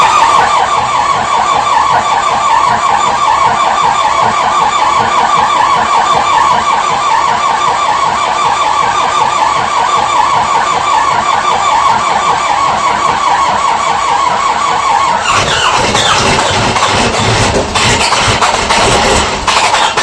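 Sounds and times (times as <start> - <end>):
diesel tractor engine running: 0.0 - 20.0.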